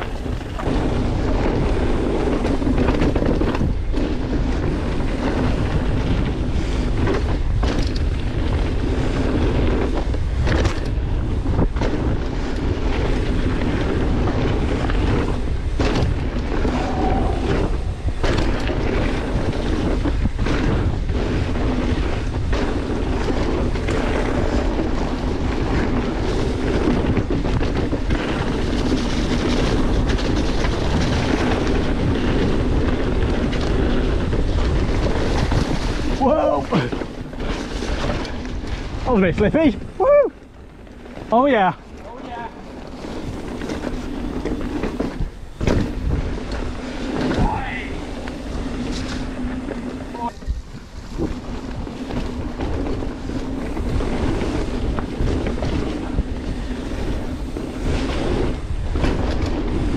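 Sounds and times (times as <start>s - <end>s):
bike rolling on dirt trail: 0.0s - 59.9s
wind rushing over microphone: 0.0s - 59.9s.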